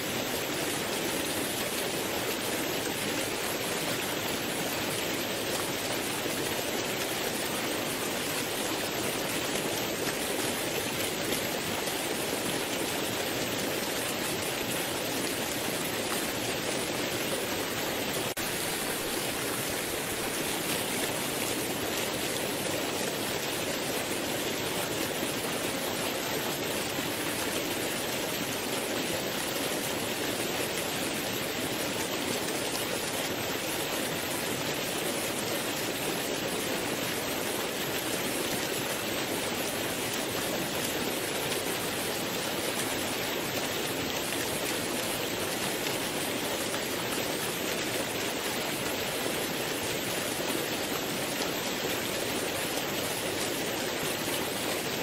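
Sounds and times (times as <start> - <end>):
waterfall and rapids rushing: 0.0 - 55.0.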